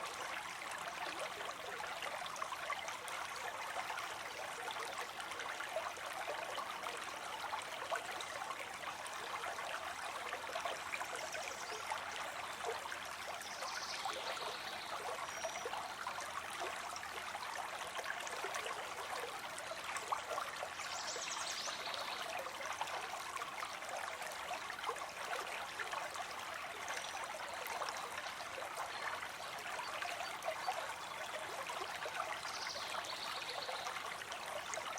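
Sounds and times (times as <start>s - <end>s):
stream water babbling: 0.0s - 34.9s.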